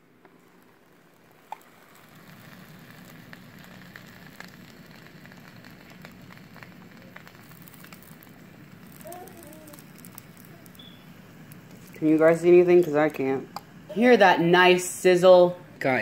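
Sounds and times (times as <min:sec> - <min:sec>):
sandwich sizzling and crackling: 0:00.0 - 0:14.8.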